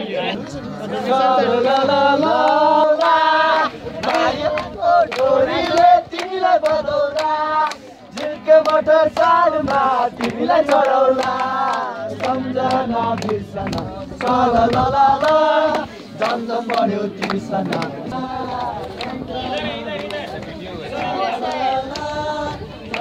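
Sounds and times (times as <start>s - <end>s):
group of voices singing: 0.1s - 23.0s
hand-clapping: 1.7s - 23.0s.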